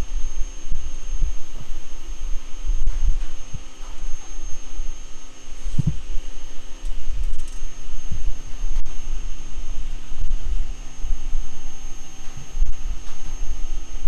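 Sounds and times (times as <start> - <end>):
faint high whine: 0.0 - 14.0
low uneven rumbling hum: 0.0 - 14.0.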